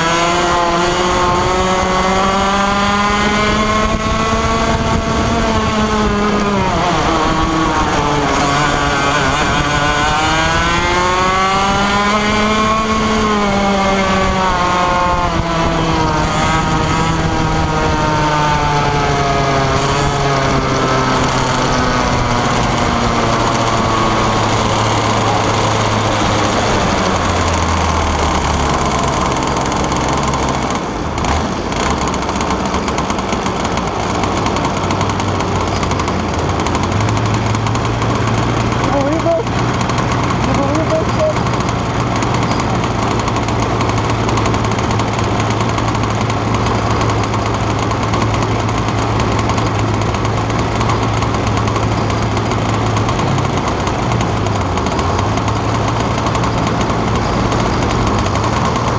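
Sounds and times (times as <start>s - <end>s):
two-stroke kart engine: 0.0s - 58.9s.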